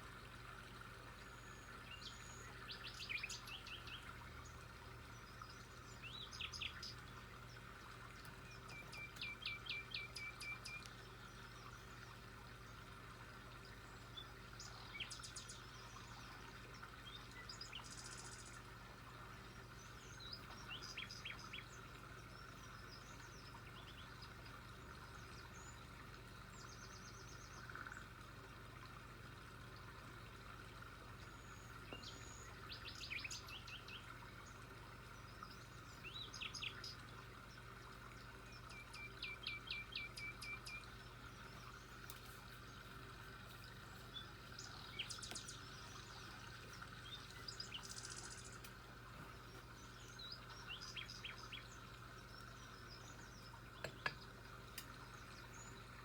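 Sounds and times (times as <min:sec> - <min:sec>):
faint steady hum: 0:00.0 - 0:56.0
small birds chirping and trilling: 0:01.1 - 0:12.9, 0:13.6 - 0:28.2, 0:31.1 - 0:56.0.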